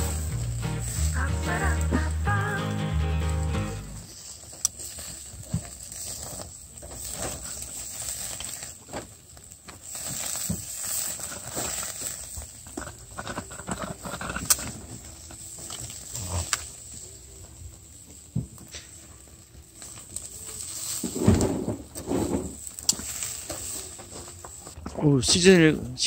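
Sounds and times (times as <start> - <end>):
ribs sizzling on a grill: 0.0 - 24.7.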